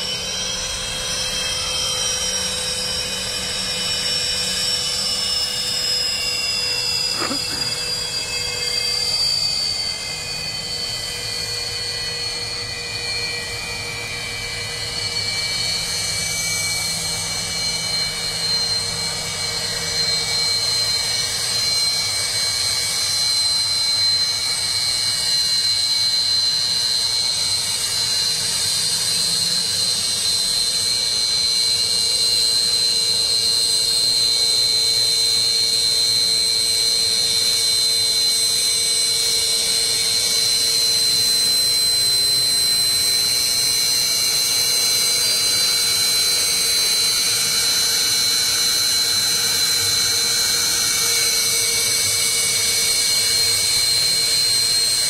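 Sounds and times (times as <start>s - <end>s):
jet engines whining: 0.0s - 21.6s, 22.2s - 55.0s.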